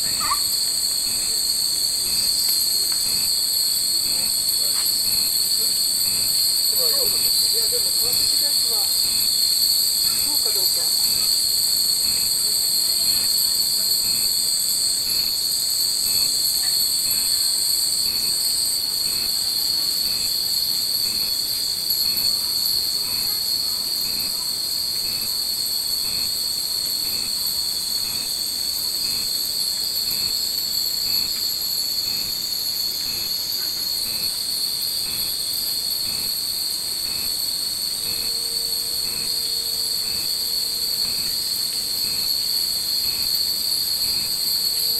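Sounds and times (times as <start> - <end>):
cicadas droning: 0.0 - 44.9.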